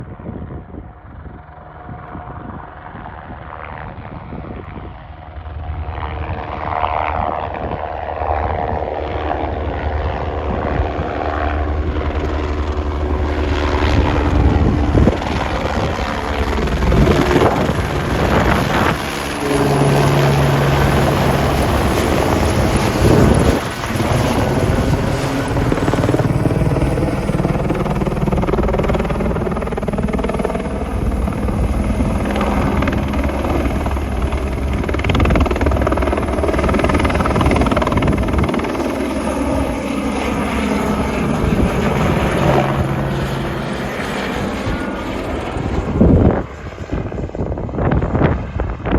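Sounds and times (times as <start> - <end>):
helicopter: 0.0 - 48.9.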